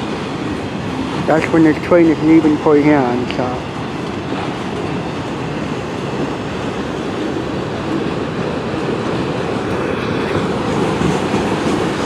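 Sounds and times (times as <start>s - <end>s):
steel wheels on rails: 0.0s - 12.0s.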